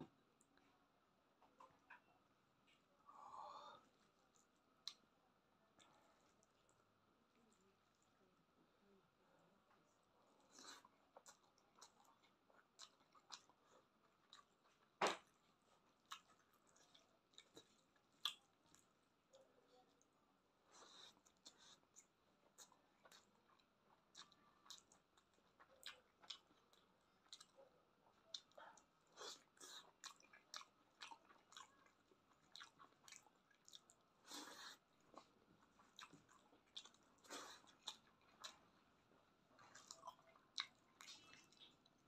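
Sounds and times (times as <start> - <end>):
person chewing food: 1.4 - 8.2, 9.9 - 42.0.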